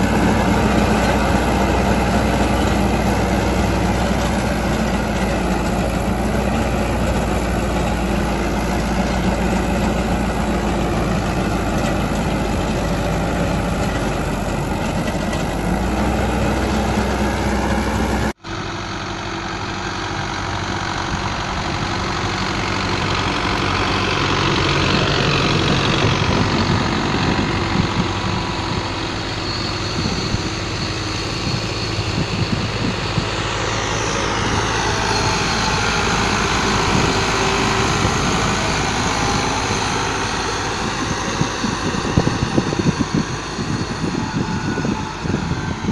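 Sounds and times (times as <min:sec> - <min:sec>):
diesel tractor engines running: 0:00.0 - 0:45.9.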